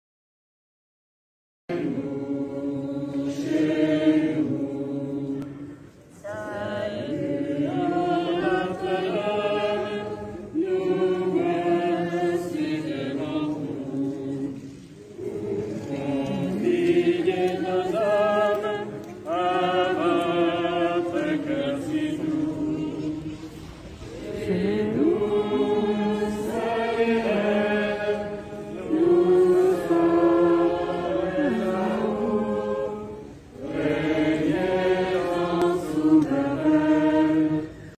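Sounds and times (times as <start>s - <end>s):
group singing a hymn: 1.7s - 37.9s.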